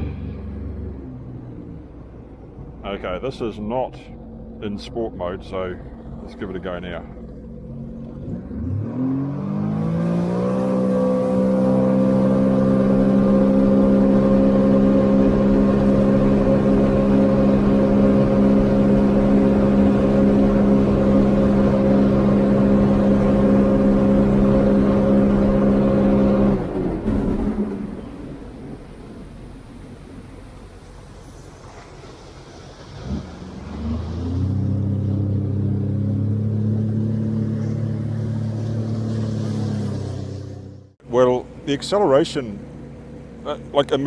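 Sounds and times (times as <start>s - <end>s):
jet ski engine accelerating: 0.0s - 44.0s.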